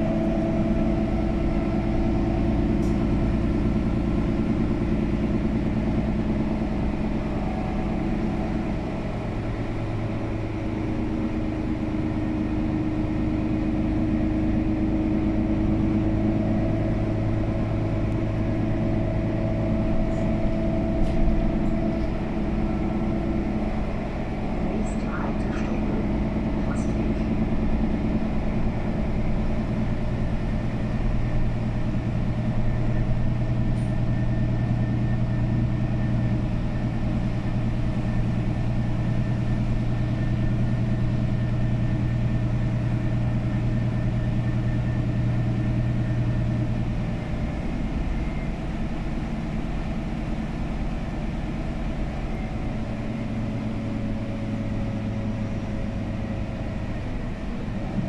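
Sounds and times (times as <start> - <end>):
bus engine hum: 0.0 - 58.0.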